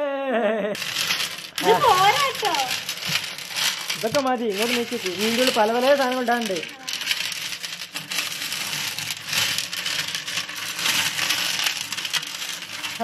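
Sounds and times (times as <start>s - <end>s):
pebbles clattering: 0.8s - 13.0s.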